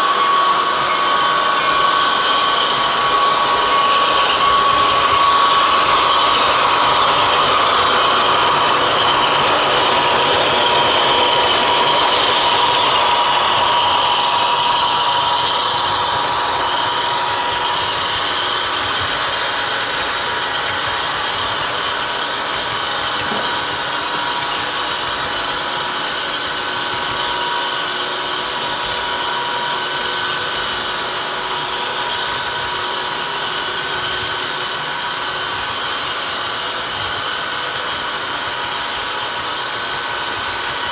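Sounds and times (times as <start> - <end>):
diesel locomotive sound: 0.0 - 40.9
model train wheels whirring: 0.0 - 40.9.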